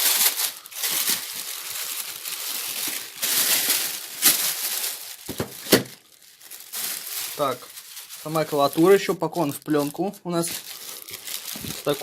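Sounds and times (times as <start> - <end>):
plastic bag crinkling: 0.0 - 12.0
sharp plastic crackle: 0.0 - 12.0.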